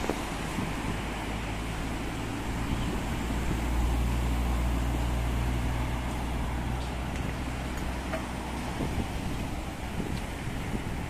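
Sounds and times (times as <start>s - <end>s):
low vehicle rumble: 0.0s - 11.0s
road traffic passing: 0.0s - 11.0s.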